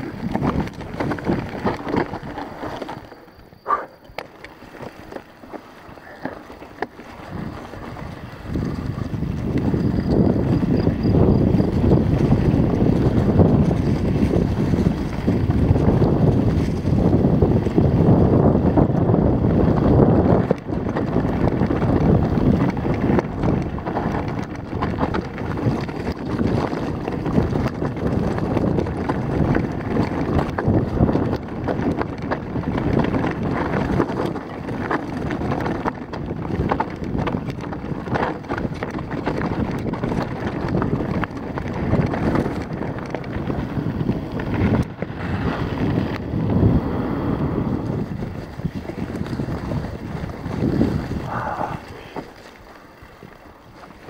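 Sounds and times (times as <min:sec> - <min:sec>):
wind rushing over microphone: 0:00.0 - 0:05.2, 0:05.8 - 0:54.0
bike knocking and rattling: 0:00.0 - 0:46.9, 0:47.6 - 0:54.0.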